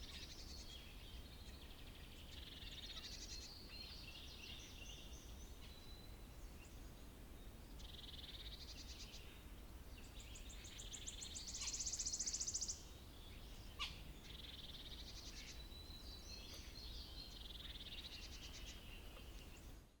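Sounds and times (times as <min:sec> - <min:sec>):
birds calling in trills: 0:00.0 - 0:06.9, 0:10.0 - 0:19.7.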